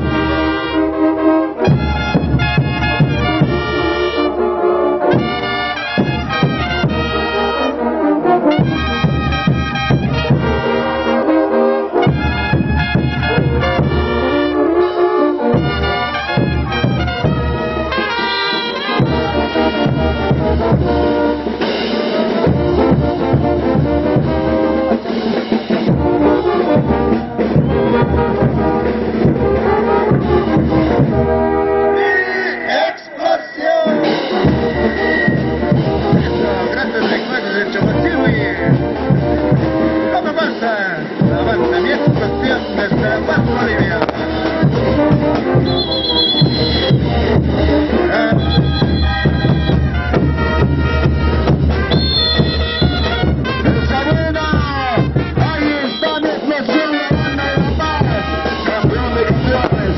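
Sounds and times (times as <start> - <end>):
brass band playing dance tune: 0.0 - 59.9
steady drum beat: 1.6 - 4.3, 5.1 - 7.6, 8.5 - 11.2, 12.0 - 14.6, 15.4 - 31.4, 34.0 - 40.1, 41.0 - 59.9.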